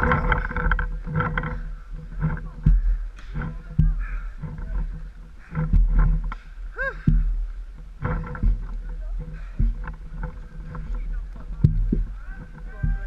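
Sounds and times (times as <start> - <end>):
footsteps on forest floor: 0.0 - 13.0.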